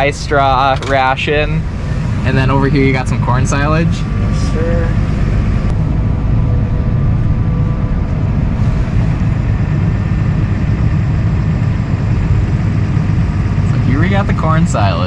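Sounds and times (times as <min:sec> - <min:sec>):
faint steady whine: 0:00.0 - 0:15.0
tractor diesel engine running: 0:00.0 - 0:15.0.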